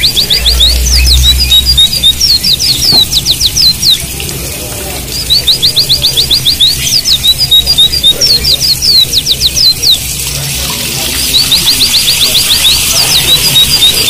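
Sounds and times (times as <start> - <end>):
sweeping bird whistles: 0.0 - 4.1, 5.1 - 10.2, 11.0 - 14.0
rapid high chirping notes: 0.0 - 14.0.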